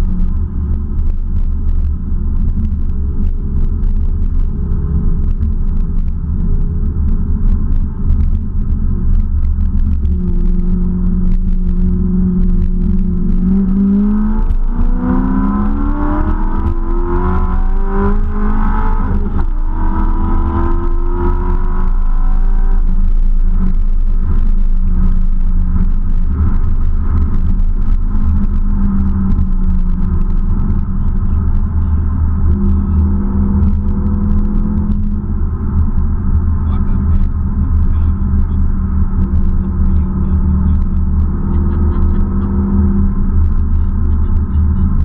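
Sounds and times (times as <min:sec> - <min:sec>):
car engine accelerating: 0:00.0 - 0:45.0
road rumble inside car: 0:00.0 - 0:45.0.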